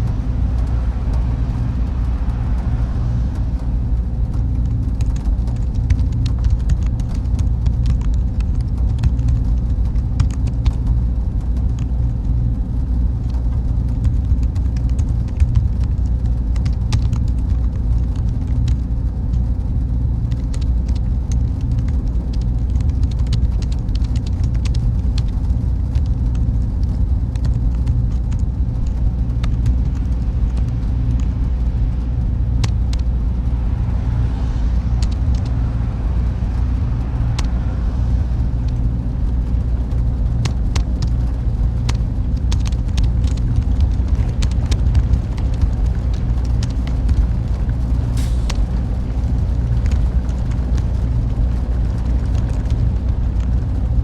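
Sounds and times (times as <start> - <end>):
low ambient rumble: 0.0 - 54.0.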